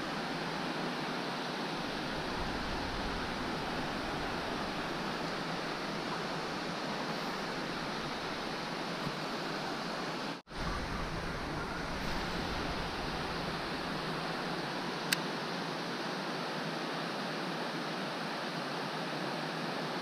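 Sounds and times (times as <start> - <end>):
river water rushing over a weir: 0.0 - 20.0.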